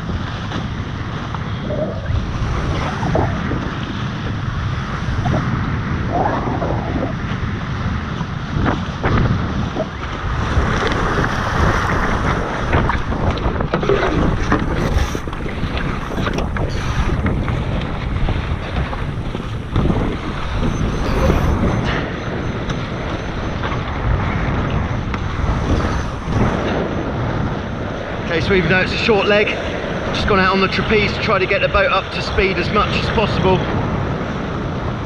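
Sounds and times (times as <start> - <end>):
water rushing along hulls: 0.0 - 35.0
wind buffeting microphone: 0.0 - 35.0.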